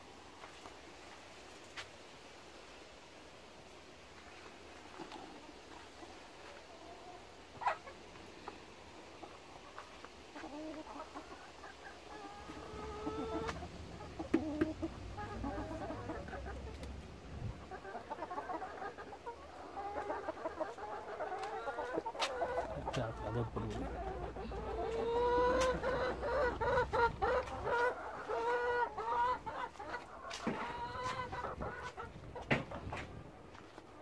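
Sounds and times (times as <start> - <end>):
hens clucking: 4.2 - 34.0.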